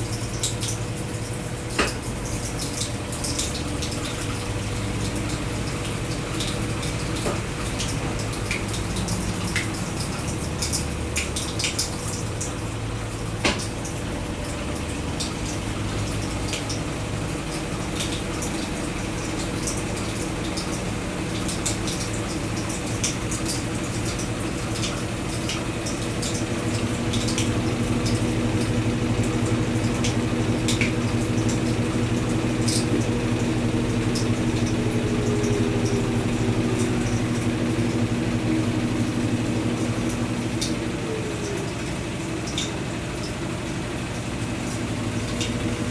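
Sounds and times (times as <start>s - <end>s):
washing machine motor hum: 0.0s - 45.9s
water drips: 0.0s - 45.9s
water sloshing and draining: 0.0s - 45.9s.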